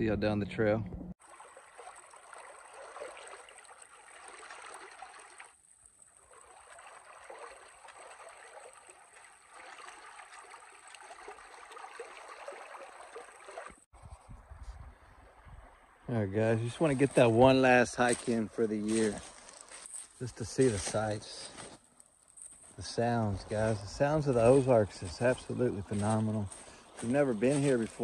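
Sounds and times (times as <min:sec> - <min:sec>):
creek flowing: 0:01.2 - 0:14.1, 0:14.8 - 0:28.0.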